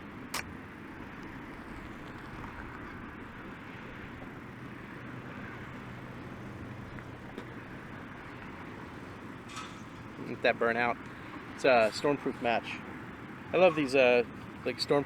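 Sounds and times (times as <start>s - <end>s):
outdoor background rumble: 0.0s - 15.0s.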